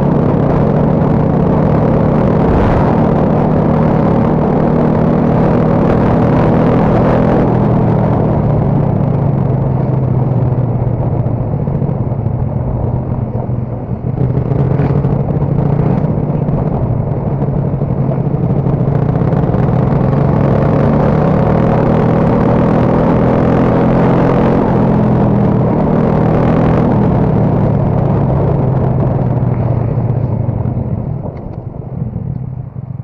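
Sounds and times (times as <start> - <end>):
motorcycle engine running: 0.0 - 33.0
rush of wind noise: 0.0 - 33.0.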